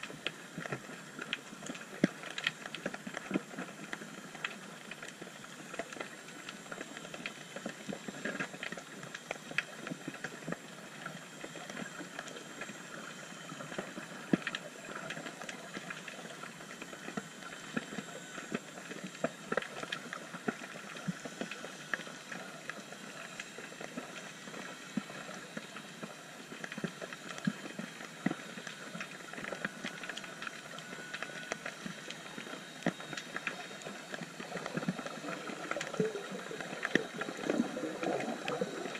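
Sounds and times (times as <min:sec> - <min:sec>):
underwater crackle of clicks: 0:00.0 - 0:38.9.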